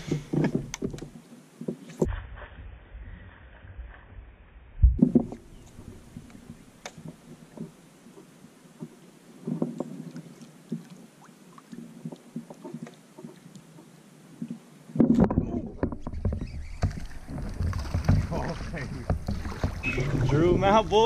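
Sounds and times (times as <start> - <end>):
paddle strokes in water: 0.0 - 2.1, 5.0 - 21.0.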